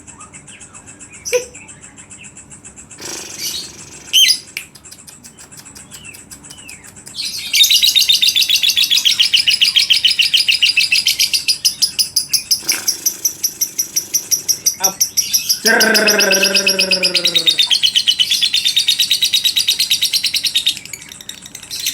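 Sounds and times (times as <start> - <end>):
bird chirps and chattering trill: 1.0 - 21.9.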